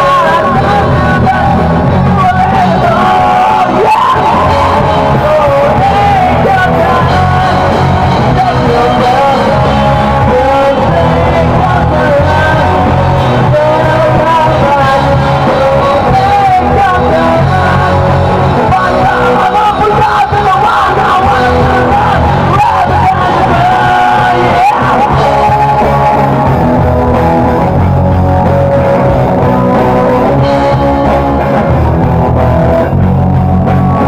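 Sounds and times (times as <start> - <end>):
person singing lead vocal: 0.0 - 34.0
rock band playing: 0.0 - 34.0.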